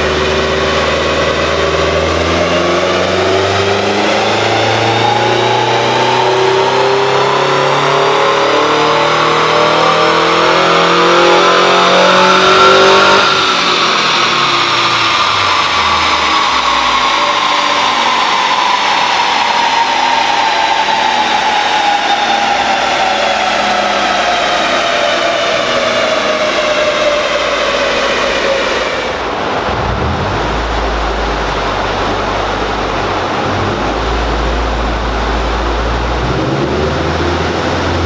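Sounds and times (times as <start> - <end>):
car engine full-throttle revving: 0.0 - 38.0.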